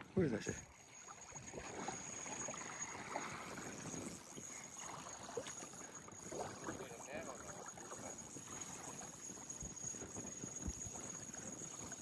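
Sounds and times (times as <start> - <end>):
water lapping against boat hull: 0.0 - 12.0
thin high-pitched whine: 0.2 - 12.0.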